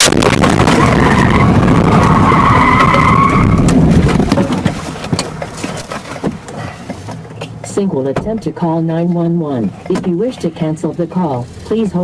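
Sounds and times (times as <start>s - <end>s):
car tyres skidding: 0.0s - 12.0s.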